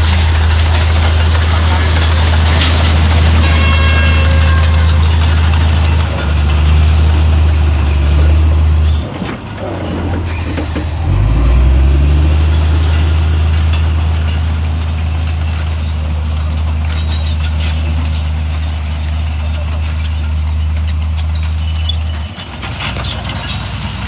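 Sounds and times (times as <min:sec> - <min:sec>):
heavy diesel engine droning: 0:00.0 - 0:24.0.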